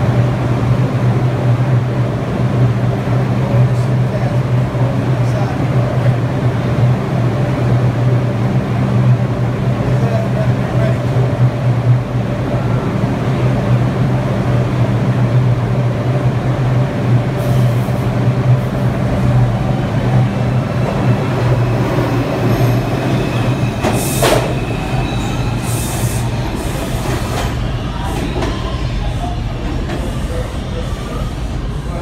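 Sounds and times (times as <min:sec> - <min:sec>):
subway car low hum: 0:00.0 - 0:32.0
wheels rumbling on rail: 0:00.0 - 0:32.0.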